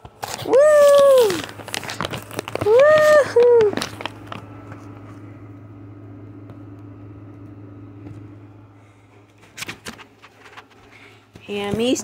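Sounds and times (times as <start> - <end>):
steady low hum: 0.0 - 12.0
faint whine: 0.5 - 12.0.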